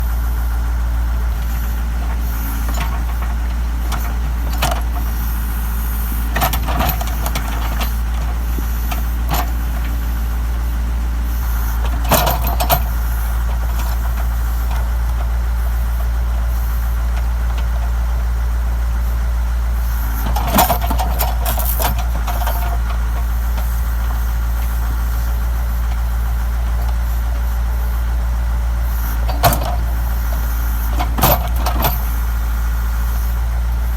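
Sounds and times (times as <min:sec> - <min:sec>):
backhoe engine running: 0:00.0 - 0:33.9.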